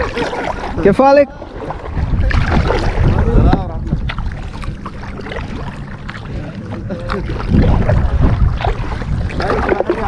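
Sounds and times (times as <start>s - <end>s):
paddle splashes: 0.0s - 10.0s
wind buffeting microphone: 0.0s - 10.0s.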